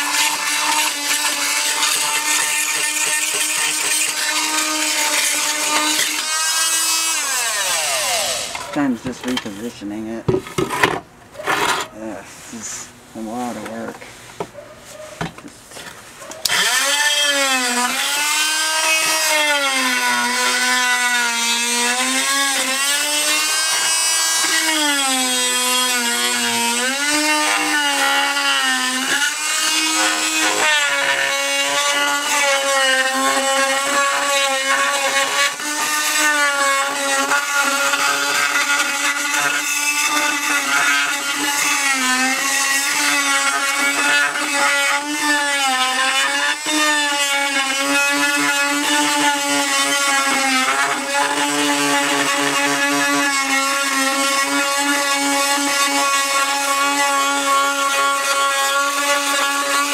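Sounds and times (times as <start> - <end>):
oscillating multi-tool cutting tile: 0.0 - 9.4, 16.4 - 59.9.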